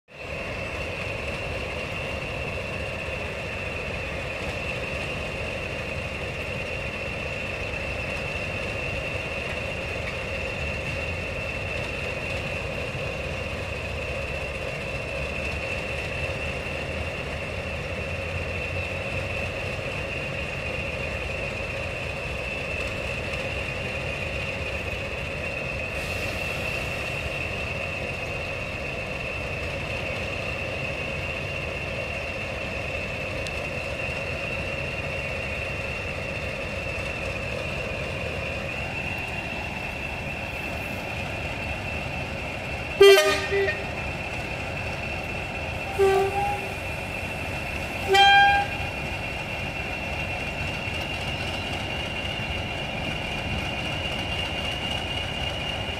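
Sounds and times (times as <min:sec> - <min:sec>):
diesel locomotives idling: 0:00.1 - 0:55.9.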